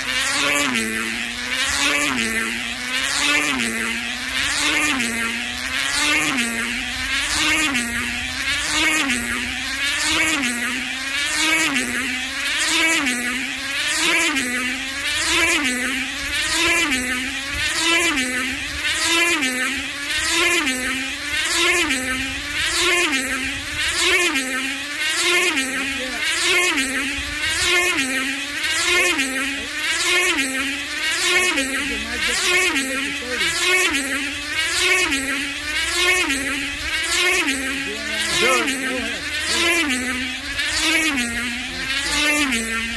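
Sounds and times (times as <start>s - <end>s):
small engine high whine: 0.0s - 42.9s.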